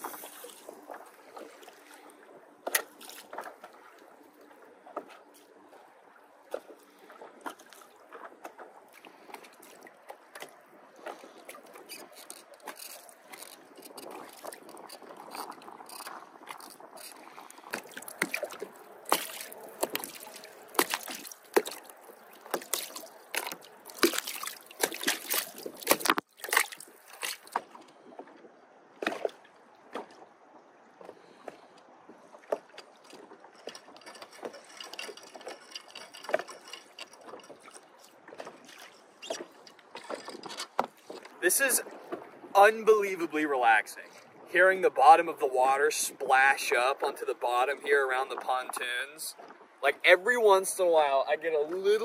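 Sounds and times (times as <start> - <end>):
small waves splashing against boat: 0.0 - 52.0.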